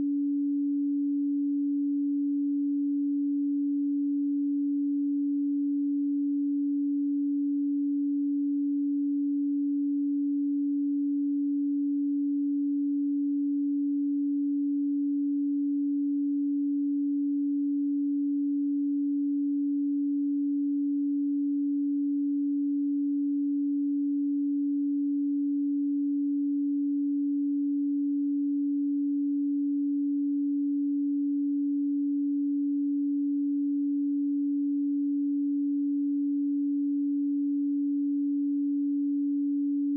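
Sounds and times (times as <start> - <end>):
steady sine tone hum: 0.0 - 39.9.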